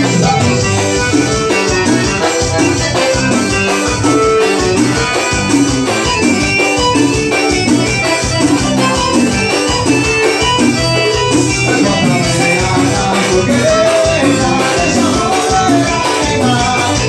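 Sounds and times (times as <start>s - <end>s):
live band playing instrumental: 0.0s - 17.0s.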